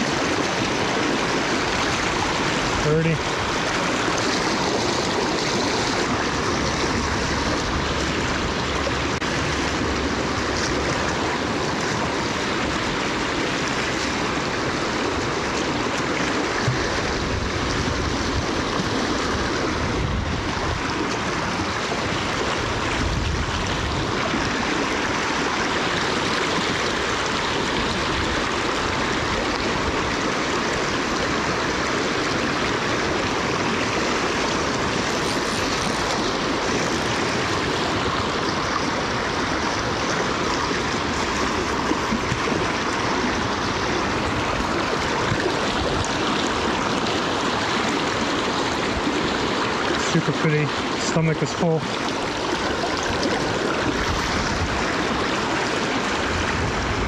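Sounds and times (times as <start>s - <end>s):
river water rushing over rapids: 0.0s - 57.0s.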